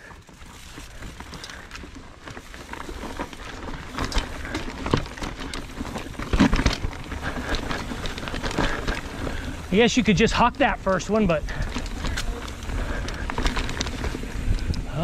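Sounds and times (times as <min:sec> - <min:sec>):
bike frame rattling: 0:00.0 - 0:15.0.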